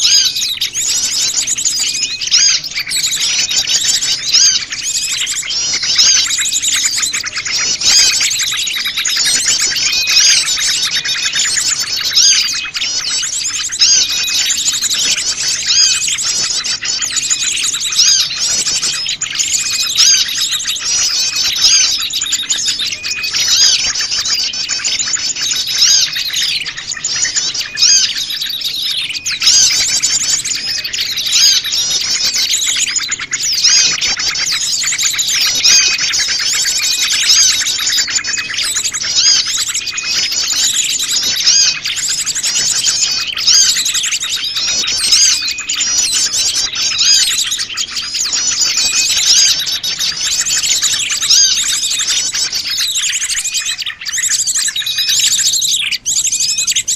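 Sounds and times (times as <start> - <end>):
small birds chirping and trilling: 0.0 - 56.9.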